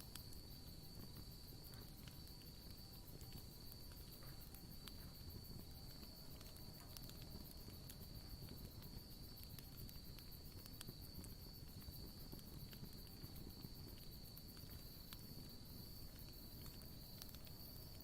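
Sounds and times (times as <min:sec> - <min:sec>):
campfire crackling: 0:00.0 - 0:18.0
crickets trilling: 0:00.0 - 0:18.0.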